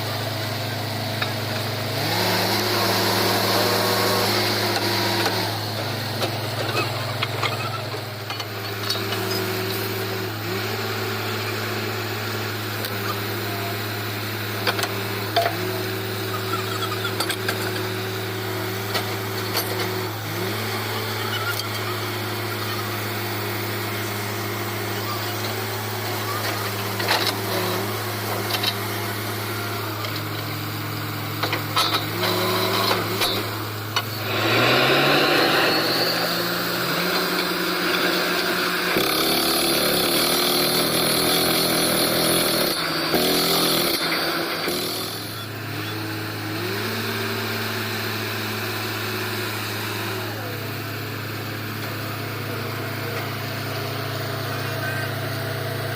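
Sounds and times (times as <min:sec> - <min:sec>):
diesel engine and air compressor: 0:00.0 - 0:55.9.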